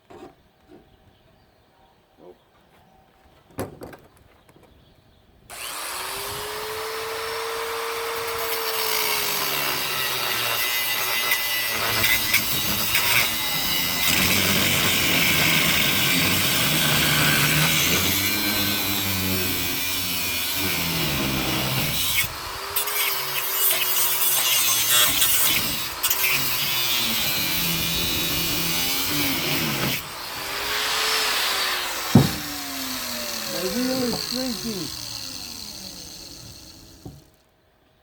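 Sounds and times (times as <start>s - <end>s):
angle grinder cutting metal: 5.5s - 37.3s.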